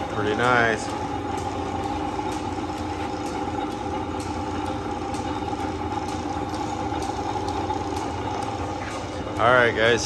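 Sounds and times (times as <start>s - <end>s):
drill press motor humming: 0.0s - 10.0s
light ticking: 0.1s - 10.0s.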